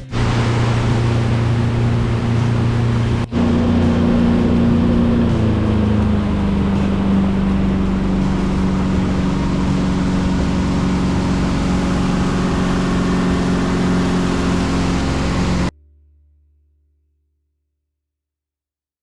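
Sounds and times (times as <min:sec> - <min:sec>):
motorboat engine running: 0:00.0 - 0:15.7
water noise: 0:00.0 - 0:15.7
wind: 0:00.0 - 0:15.7.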